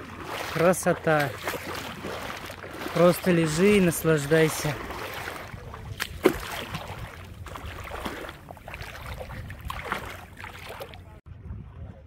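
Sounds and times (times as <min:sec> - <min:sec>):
seawater sloshing and splashing: 0:00.0 - 0:11.3.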